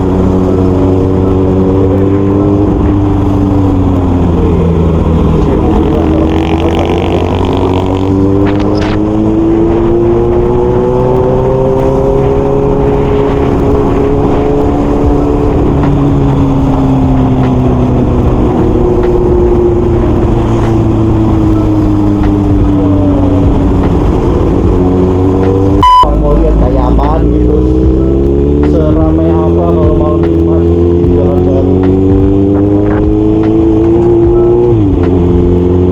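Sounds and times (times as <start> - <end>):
motorcycle engine and exhaust: 0.0 - 35.9.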